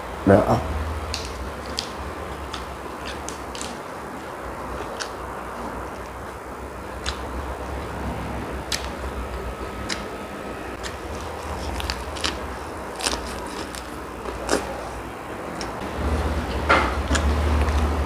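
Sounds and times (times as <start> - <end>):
steady low hum: 0.0 - 18.0
person chewing with wet smacks: 1.1 - 8.0, 8.6 - 15.8, 16.9 - 18.0.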